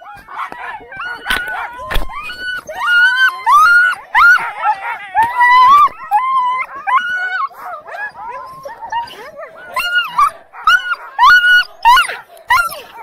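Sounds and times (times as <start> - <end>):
sled dogs yelping and howling: 0.0 - 13.0.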